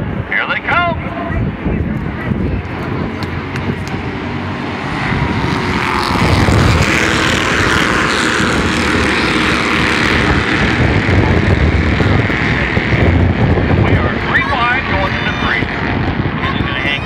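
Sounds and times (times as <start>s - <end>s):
race car engines buzzing past: 0.0s - 17.0s.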